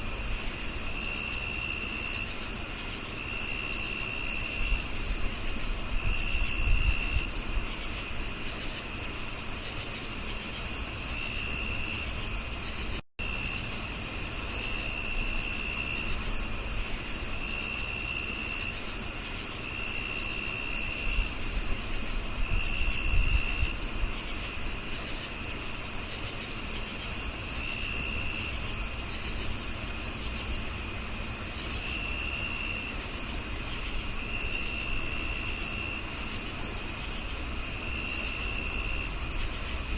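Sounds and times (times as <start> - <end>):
high cricket trill: 0.0 - 39.9
lower cricket trill in bursts: 0.0 - 39.9
regular cricket chirp: 0.0 - 39.9.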